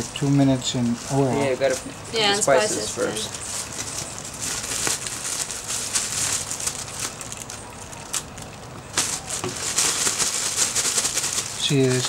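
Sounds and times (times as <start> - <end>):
plastic bag crinkling: 1.6 - 12.0.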